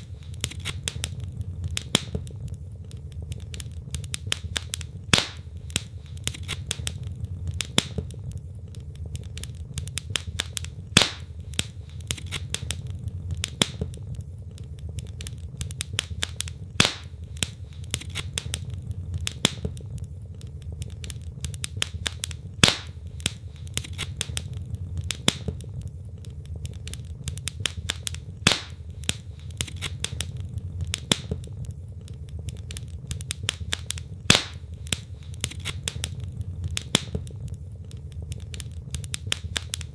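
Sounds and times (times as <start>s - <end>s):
logs crackling in fireplace: 0.0s - 39.9s
low rumble of flame: 0.0s - 39.9s
sharp pops of fire: 0.0s - 39.9s.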